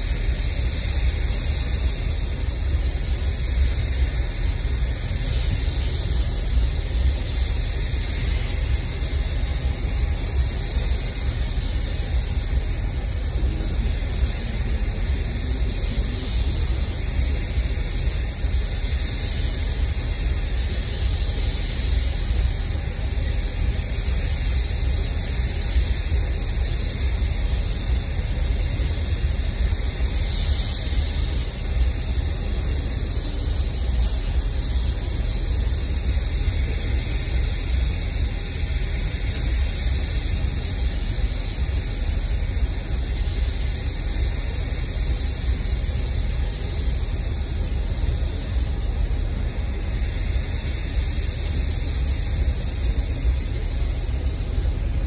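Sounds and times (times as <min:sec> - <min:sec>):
hiss: 0:00.0 - 0:55.0
train wheels rumbling on rail: 0:00.0 - 0:55.0.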